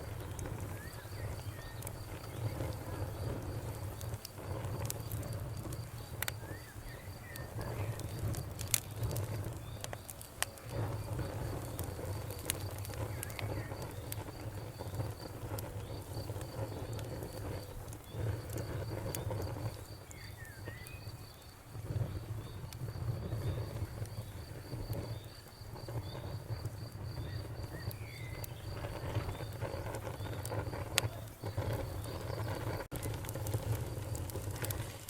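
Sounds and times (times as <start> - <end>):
fire crackling: 0.0 - 35.0.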